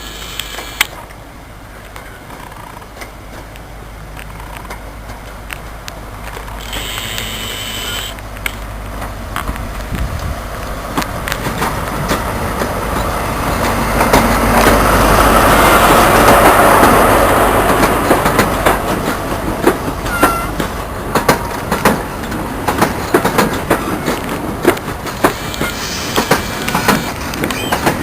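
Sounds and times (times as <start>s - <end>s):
train passing: 0.0s - 28.0s
wheels clicking over rail joints: 0.0s - 28.0s.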